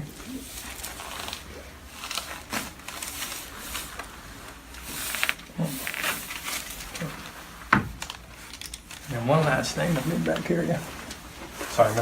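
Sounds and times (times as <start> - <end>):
clothing rustling on a table: 0.1 - 12.0.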